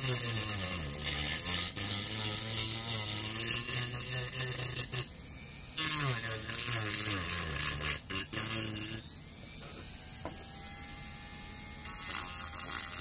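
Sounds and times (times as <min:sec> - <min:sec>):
rotary tool sanding plastic: 0:00.0 - 0:13.0.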